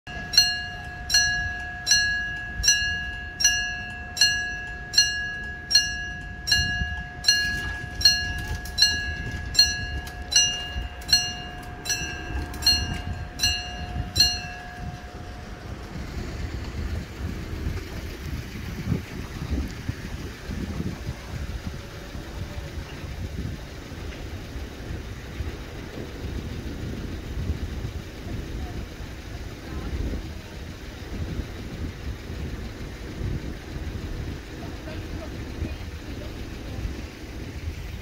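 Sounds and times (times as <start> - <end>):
level crossing warning bell: 0.1 - 38.0
low rumble: 0.1 - 38.0.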